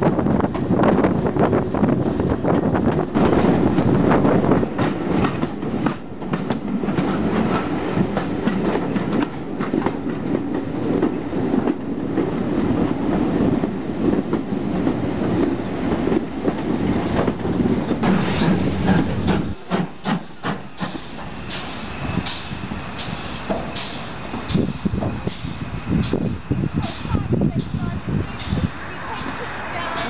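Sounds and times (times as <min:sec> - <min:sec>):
train coaches rumbling: 0:00.0 - 0:30.0
wheels clicking over rail joints: 0:00.0 - 0:30.0.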